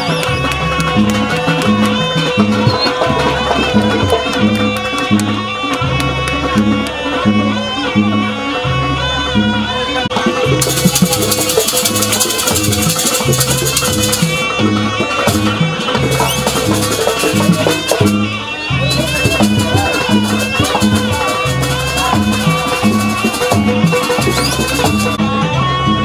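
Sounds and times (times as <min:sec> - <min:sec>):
traditional ensemble music: 0:00.0 - 0:26.0.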